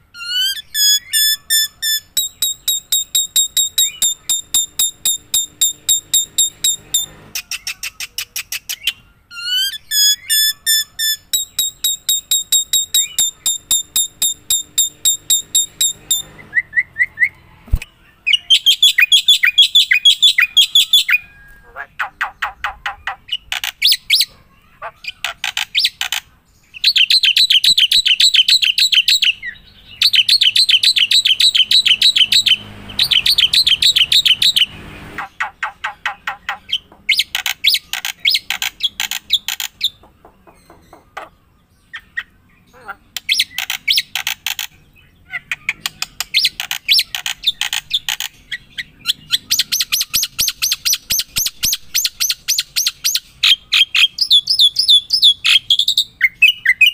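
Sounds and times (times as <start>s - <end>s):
bird chirping: 0.0s - 56.9s.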